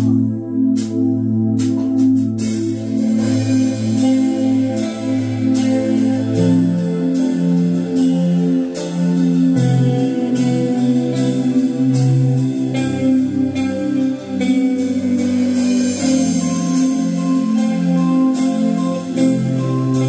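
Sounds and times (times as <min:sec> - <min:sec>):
band music with guitar and bass: 0:00.0 - 0:20.0.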